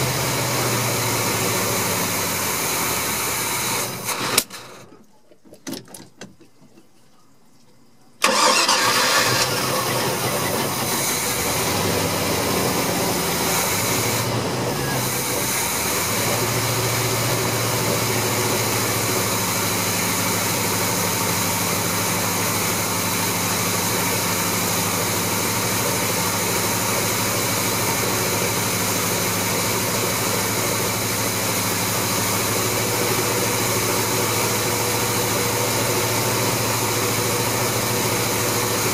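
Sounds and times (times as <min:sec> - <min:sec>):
engine starting and idling: 0:00.0 - 0:05.0, 0:08.2 - 0:38.9.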